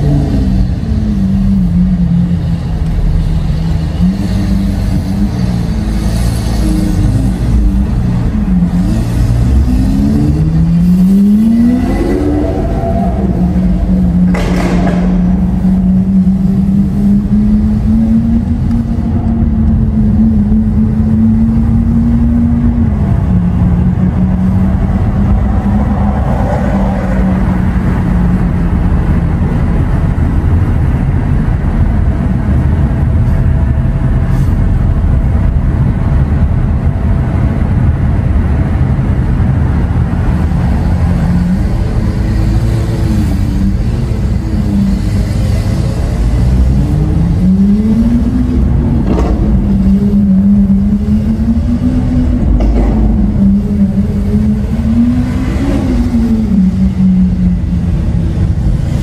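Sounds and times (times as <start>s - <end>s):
sports car engine droning: 0.0s - 59.0s.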